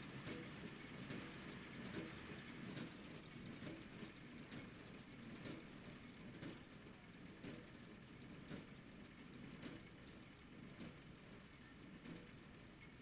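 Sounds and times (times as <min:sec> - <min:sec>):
distant tractor and baler rumbling: 0:00.0 - 0:12.5.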